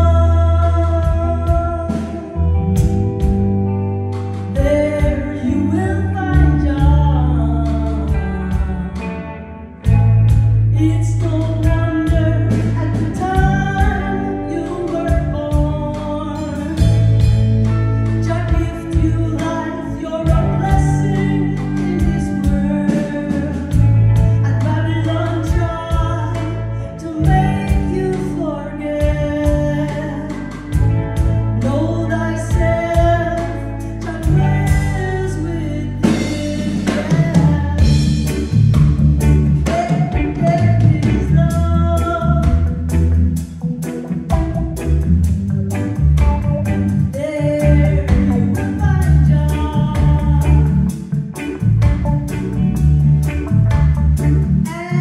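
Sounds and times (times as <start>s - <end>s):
woman singing into a microphone: 0.0s - 3.4s, 4.1s - 38.6s, 39.6s - 42.9s, 46.9s - 51.8s, 54.6s - 55.0s
bass line: 0.0s - 55.0s
drum kit: 0.0s - 55.0s
electric guitar: 0.0s - 55.0s.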